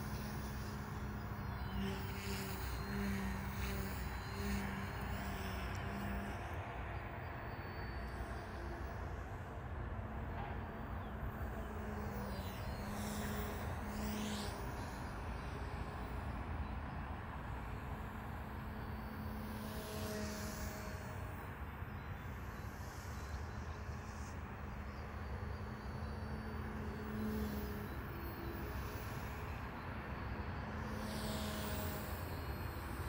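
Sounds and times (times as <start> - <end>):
rc helicopter rotor hum: 0.0 - 33.0
steady background noise: 0.0 - 33.0.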